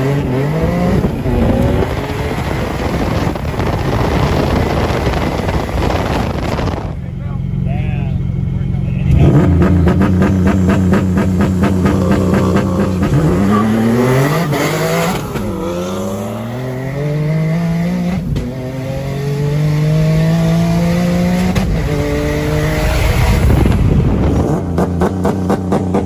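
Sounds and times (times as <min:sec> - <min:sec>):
car engine accelerating through gears: 0:00.0 - 0:07.0, 0:08.3 - 0:26.0.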